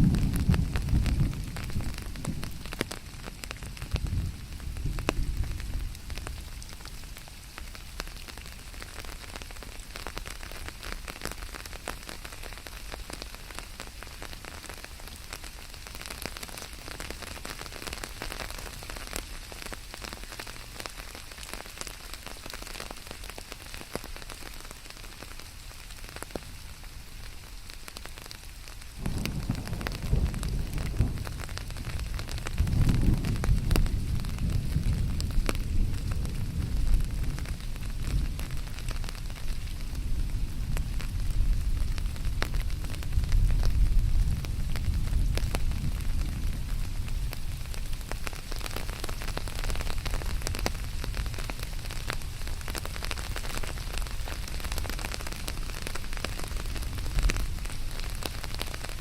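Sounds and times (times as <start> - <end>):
rain hiss: 0.0 - 59.0
raindrops ticking on a surface: 0.0 - 59.0.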